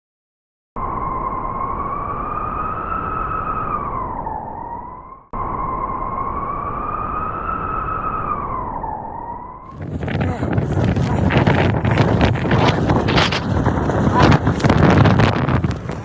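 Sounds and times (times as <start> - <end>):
blizzard wind howling: 0.8 - 16.0.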